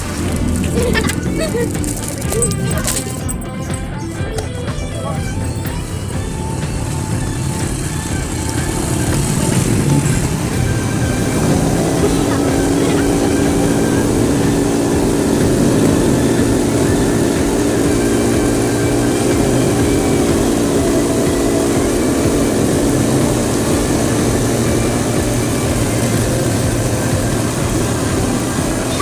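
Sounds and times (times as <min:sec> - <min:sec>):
cotton candy machine humming: 0:00.0 - 0:29.0.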